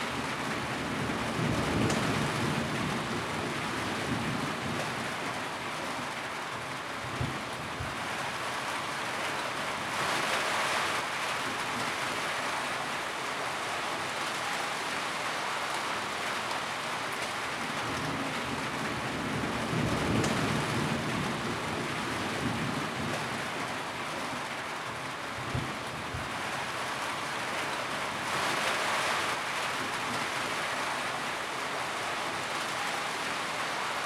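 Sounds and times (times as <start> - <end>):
rain drumming on a tin roof: 0.0 - 34.0.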